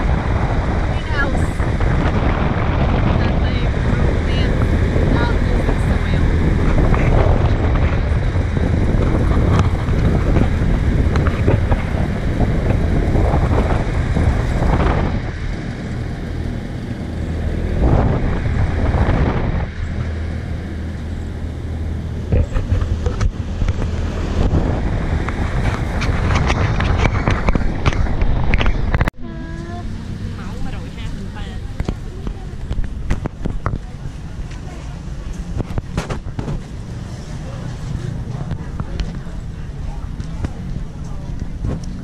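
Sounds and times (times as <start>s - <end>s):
low engine drone: 0.0s - 42.0s
wind buffeting microphone: 0.0s - 42.0s.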